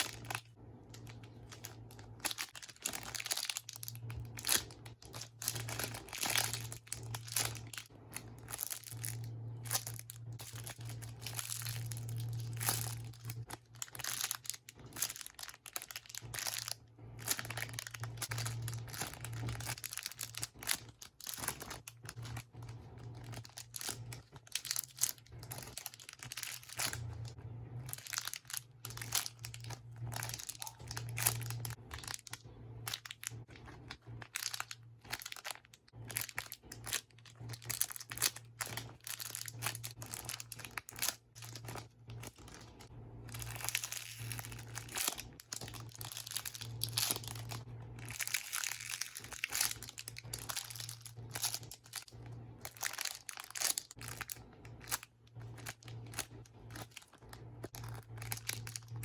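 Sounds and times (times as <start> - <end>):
squishy toys crinkling and rustling: 0.0 - 59.0
steady low hum: 0.0 - 59.0.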